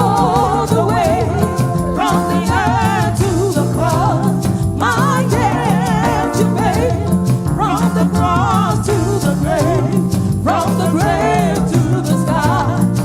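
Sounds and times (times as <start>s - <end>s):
gospel band playing: 0.0s - 13.0s
person singing with heavy vibrato: 0.0s - 13.0s
shaken percussion: 0.0s - 13.0s.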